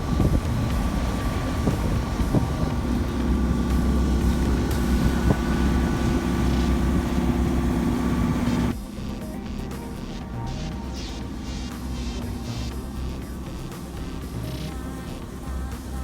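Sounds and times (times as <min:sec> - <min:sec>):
boat engine droning: 0:00.0 - 0:16.0
water noise: 0:00.0 - 0:16.0
wind: 0:00.0 - 0:16.0.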